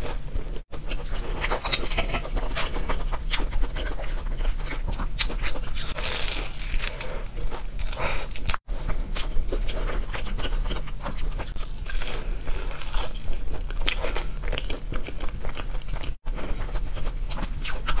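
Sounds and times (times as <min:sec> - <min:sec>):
chewing crispy pastry: 0:00.0 - 0:18.0
faint low hum: 0:00.0 - 0:18.0.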